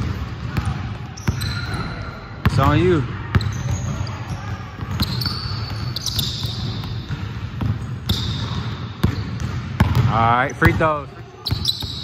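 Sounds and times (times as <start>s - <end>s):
basketballs bouncing on wooden floor: 0.0s - 12.0s.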